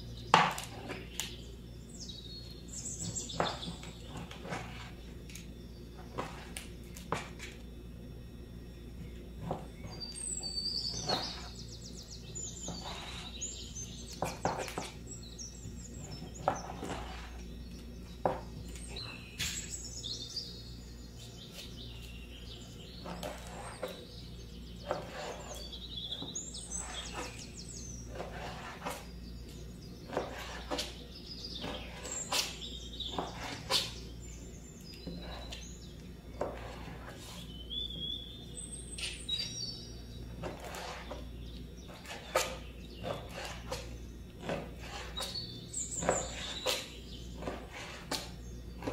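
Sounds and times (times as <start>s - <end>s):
birds chirping and trilling: 0.0s - 48.9s
low steady hum: 0.0s - 48.9s.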